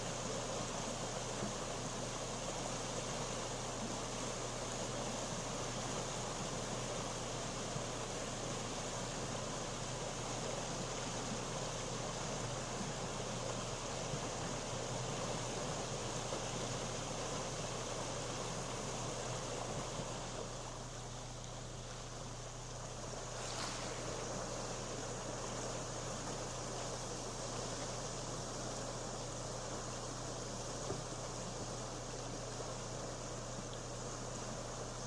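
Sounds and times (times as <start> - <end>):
floodwater rushing in a creek: 0.0 - 35.0.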